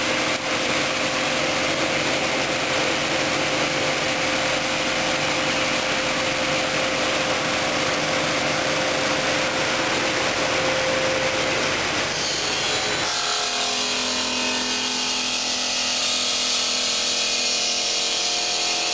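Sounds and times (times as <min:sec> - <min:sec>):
saw grinding through stone: 0:00.0 - 0:18.9
steady machine hum: 0:00.0 - 0:18.9.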